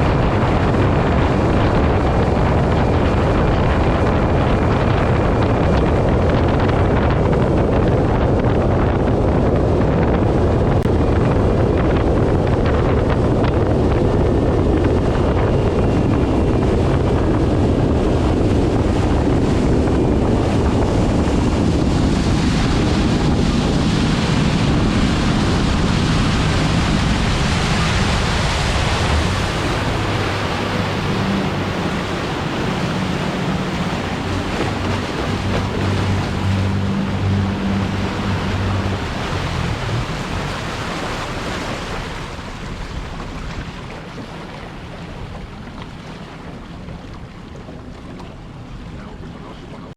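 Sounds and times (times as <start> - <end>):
outboard engine drone: 0.0 - 49.9
rushing water: 0.0 - 49.9
wind buffeting microphone: 0.0 - 49.9.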